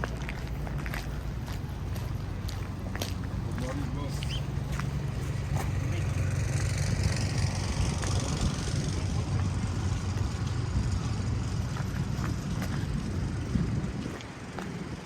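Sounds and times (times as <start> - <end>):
street noise hiss: 0.0 - 15.0
vehicle engine idling: 0.0 - 15.0.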